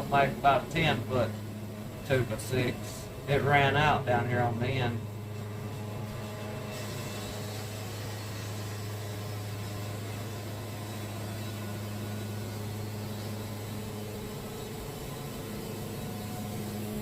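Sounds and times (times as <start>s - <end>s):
band sawmill sawing log: 0.0s - 17.0s.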